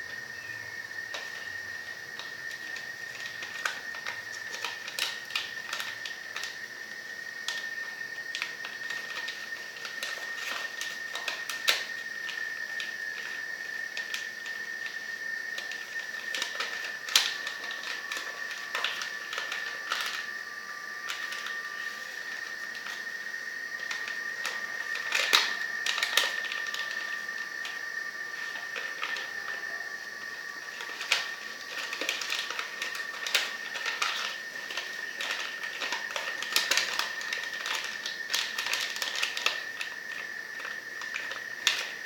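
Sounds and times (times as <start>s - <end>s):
steady high-pitched whine: 0.0s - 42.0s
paper rustling and creasing: 1.1s - 42.0s.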